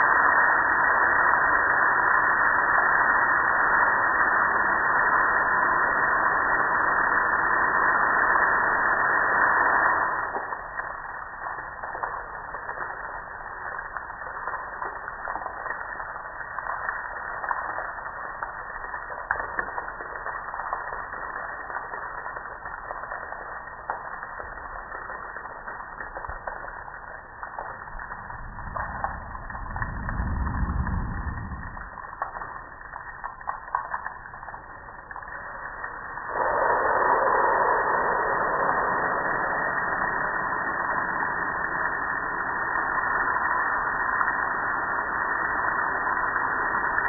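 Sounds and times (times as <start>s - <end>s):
water spraying with loud hiss: 0.0s - 47.0s.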